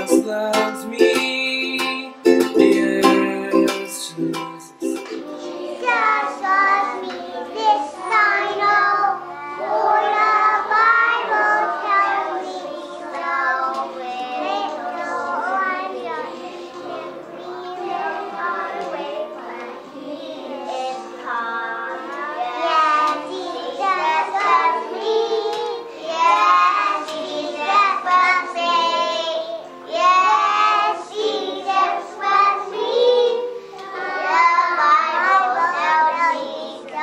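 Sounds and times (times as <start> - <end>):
children singing: 0.0 - 37.0
musical accompaniment: 0.0 - 37.0.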